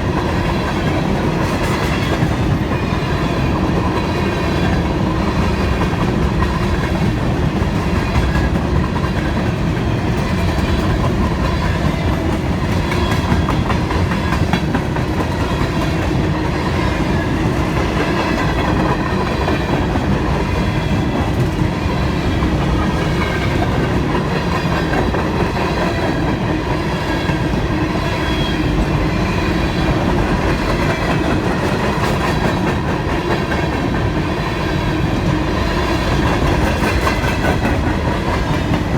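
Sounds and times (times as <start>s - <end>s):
clickety-clack over rail joints: 0.0s - 38.9s
train wheels rumbling on rails: 0.0s - 38.9s.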